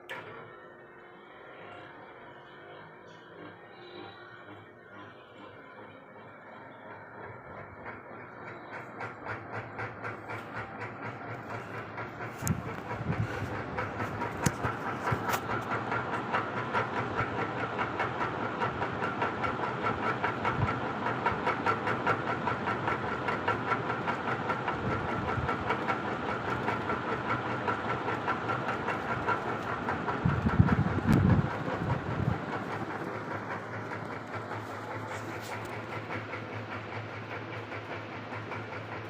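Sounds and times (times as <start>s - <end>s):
ceiling fan whining and clattering: 0.0s - 39.0s.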